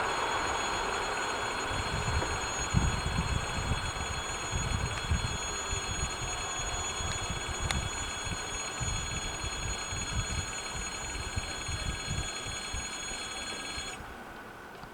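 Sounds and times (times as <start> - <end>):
electric warning bell ringing: 0.0 - 14.0.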